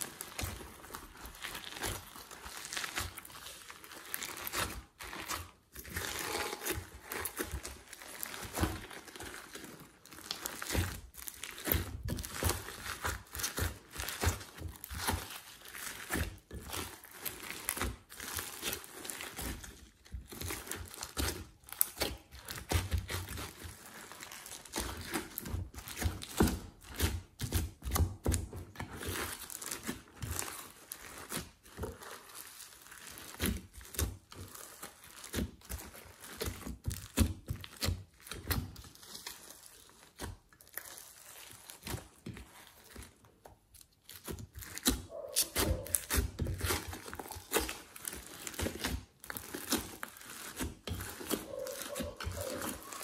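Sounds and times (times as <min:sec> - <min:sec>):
slime squishing and crackling: 0:00.0 - 0:53.0.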